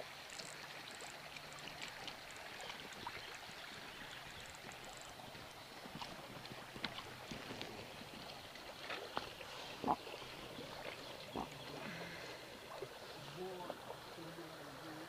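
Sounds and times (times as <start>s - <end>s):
stream running over stones: 0.0s - 15.0s
water splashes: 0.0s - 15.0s.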